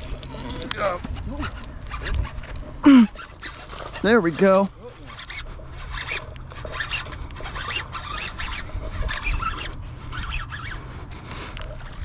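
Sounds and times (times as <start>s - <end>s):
fishing reel cranking: 0.0s - 10.8s.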